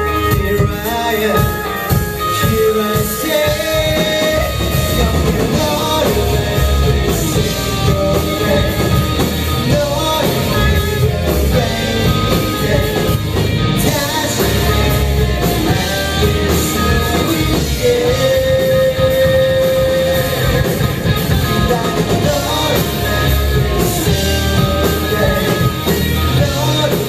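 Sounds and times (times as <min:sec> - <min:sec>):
drum kit: 0:00.0 - 0:27.0
electric guitar: 0:00.0 - 0:27.0
person singing: 0:00.0 - 0:27.0.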